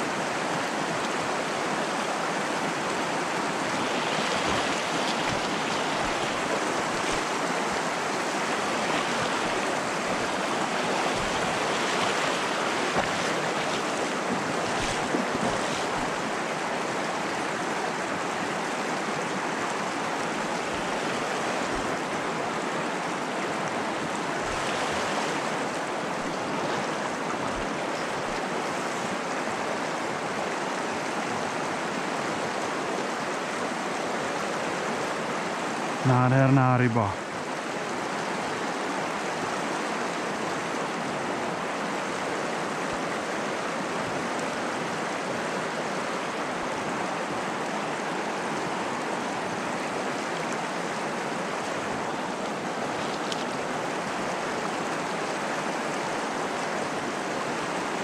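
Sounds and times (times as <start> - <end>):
flowing river water: 0.0 - 58.0.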